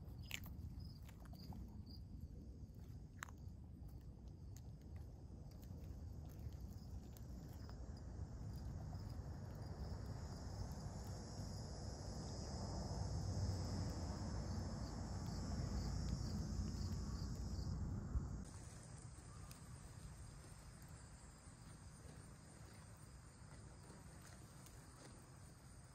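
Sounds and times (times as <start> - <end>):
faint low rumble: 0.0 - 25.9
insects chirping: 0.0 - 25.9.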